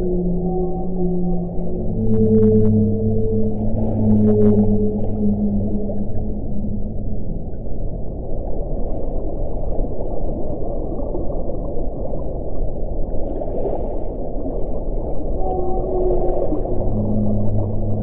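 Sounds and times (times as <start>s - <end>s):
underwater rumbling and gurgling: 0.0s - 18.0s.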